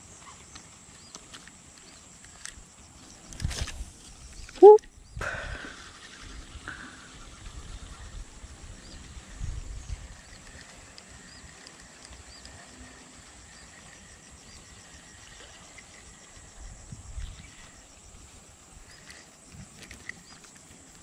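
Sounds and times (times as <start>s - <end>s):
insects droning high-pitched: 0.0s - 21.0s.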